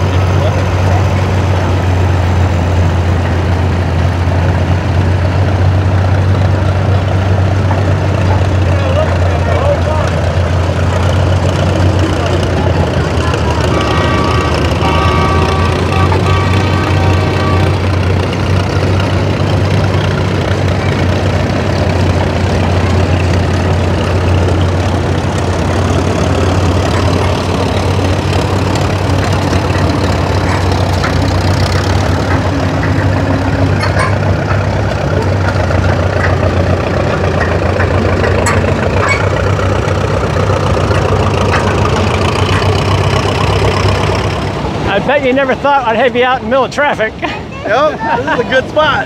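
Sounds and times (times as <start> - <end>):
tractor engines droning: 0.0 - 49.0.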